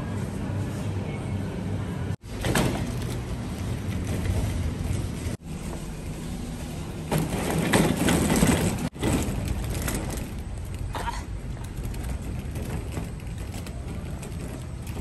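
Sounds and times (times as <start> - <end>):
shopping trolley rattling: 2.2 - 15.0.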